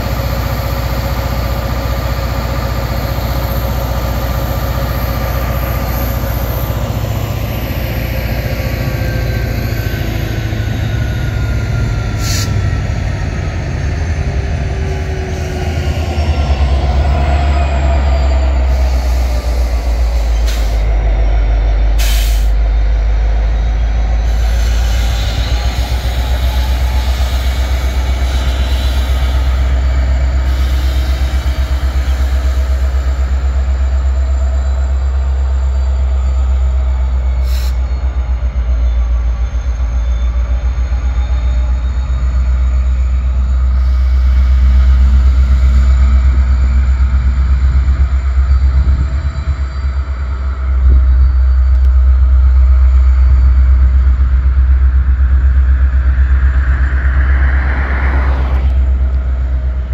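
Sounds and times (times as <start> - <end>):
faint high wheel squeal: 0.0 - 59.9
freight train rumbling past: 0.0 - 59.9.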